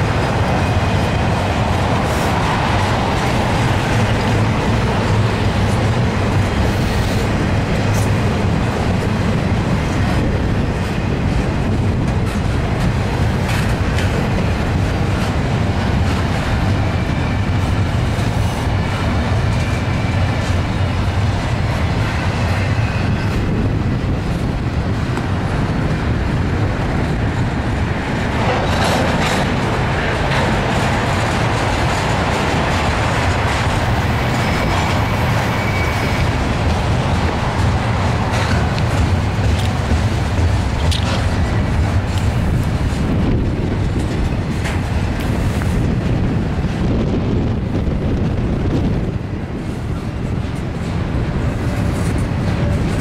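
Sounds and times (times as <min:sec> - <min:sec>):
freight cars rumbling past: 0:00.0 - 0:53.0
rushing noise: 0:00.0 - 0:53.0.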